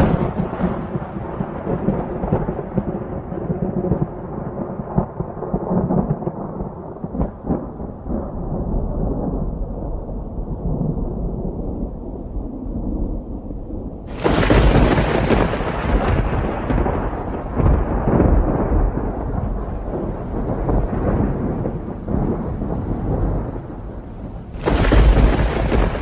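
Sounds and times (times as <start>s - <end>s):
thunder rumbling: 0.0s - 26.0s.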